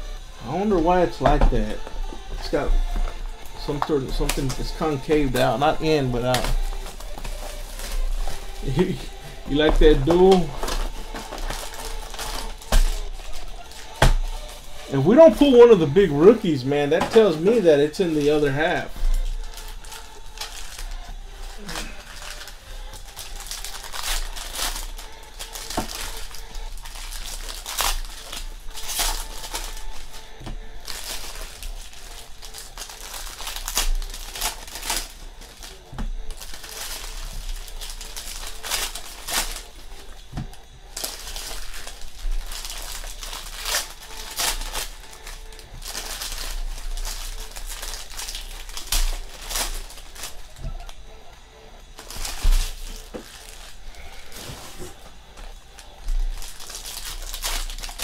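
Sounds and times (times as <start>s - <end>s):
foil wrappers crinkling: 0.0s - 58.0s.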